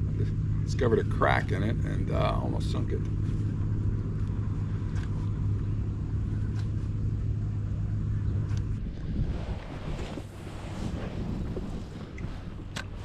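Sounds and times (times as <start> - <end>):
motor engine drone: 0.0 - 13.0.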